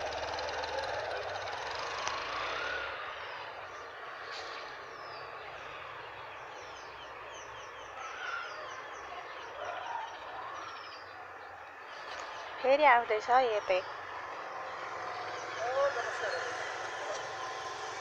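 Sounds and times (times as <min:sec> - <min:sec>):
small birds chirping: 0:00.0 - 0:18.0
faint gliding bird calls: 0:02.5 - 0:18.0.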